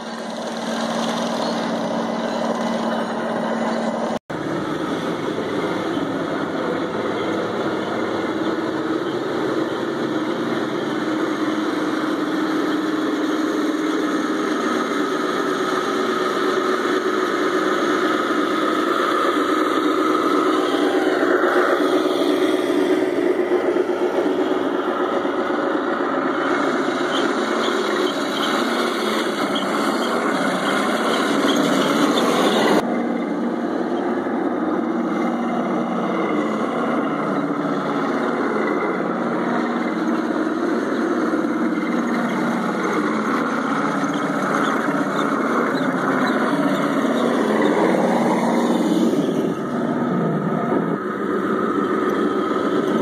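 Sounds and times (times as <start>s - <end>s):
model tank engine running: 0.0s - 53.0s.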